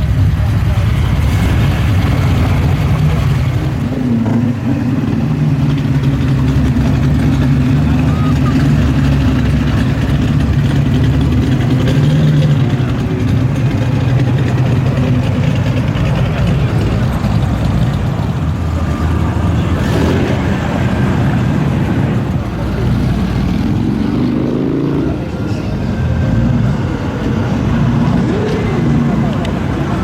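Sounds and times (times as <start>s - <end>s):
car engine rumbling and revving: 0.0s - 30.0s.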